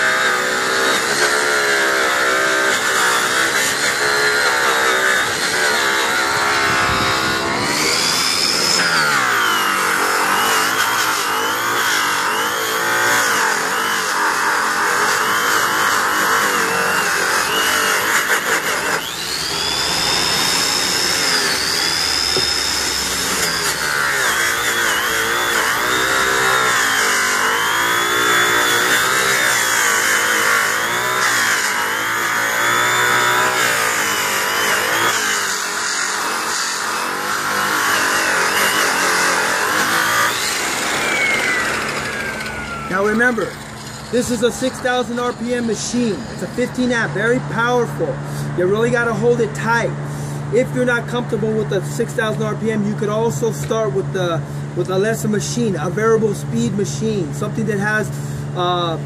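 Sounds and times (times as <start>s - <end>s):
electric polisher motor whine: 0.0s - 48.6s.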